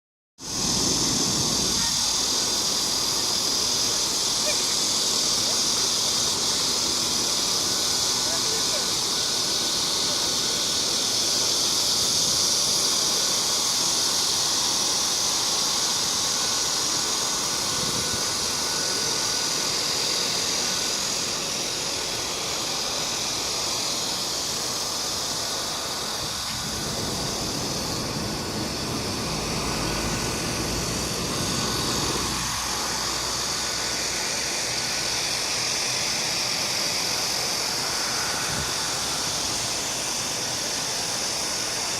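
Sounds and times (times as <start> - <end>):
cicadas buzzing: 0.4 - 41.9
low rumble of city traffic: 0.4 - 41.9.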